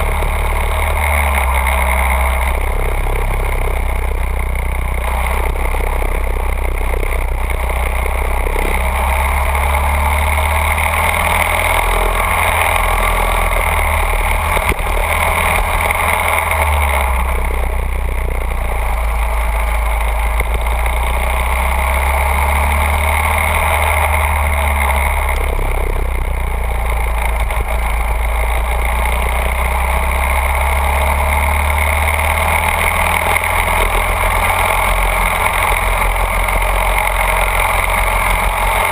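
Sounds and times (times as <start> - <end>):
go-kart engine running: 0.0 - 38.9.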